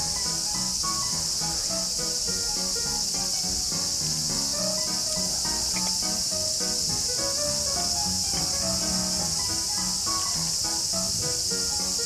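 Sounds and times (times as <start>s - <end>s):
high-pitched insect chorus: 0.0s - 12.0s
melodic background music: 0.0s - 12.0s.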